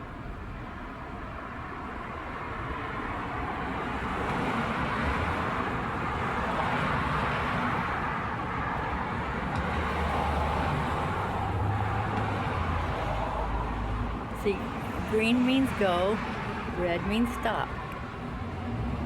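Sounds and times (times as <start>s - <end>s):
vehicles passing: 1.8s - 19.0s.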